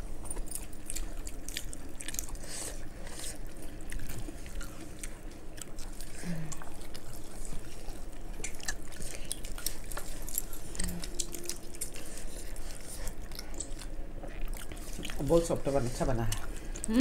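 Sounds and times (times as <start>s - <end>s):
wet chewing and lip smacking: 0.2s - 15.6s.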